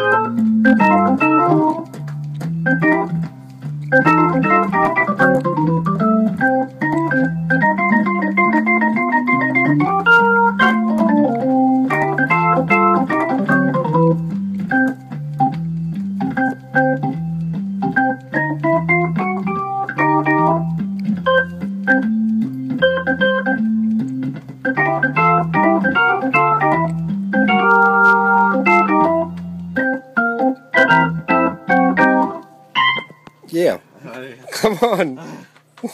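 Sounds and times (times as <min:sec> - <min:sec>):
organ playing bass line and chords: 0:00.0 - 0:33.4.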